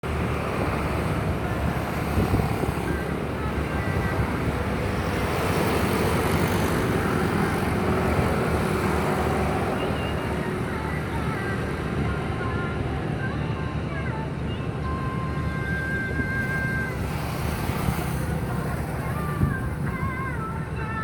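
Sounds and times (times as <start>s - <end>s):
ship engine rumble: 0.0s - 21.0s.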